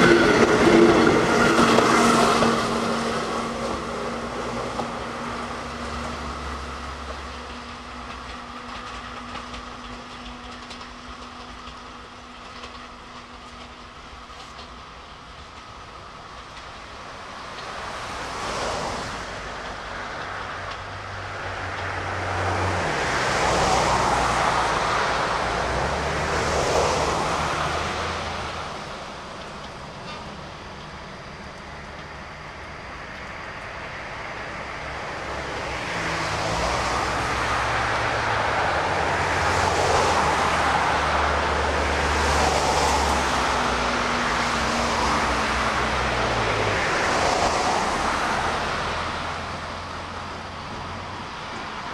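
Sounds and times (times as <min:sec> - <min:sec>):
tram motor hum: 0:00.0 - 0:51.9
wheels rumbling on rail: 0:00.0 - 0:51.9.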